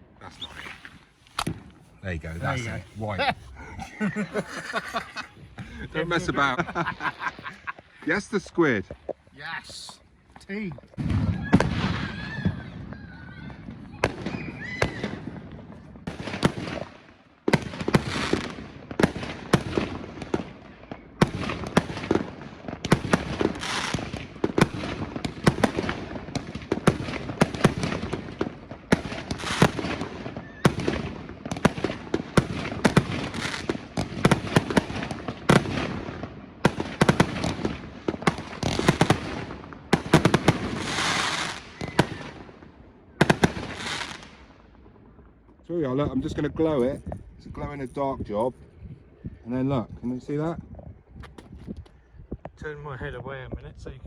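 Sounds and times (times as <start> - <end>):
fireworks crackling: 0.0 - 44.8
fireworks bangs and pops: 0.0 - 45.0.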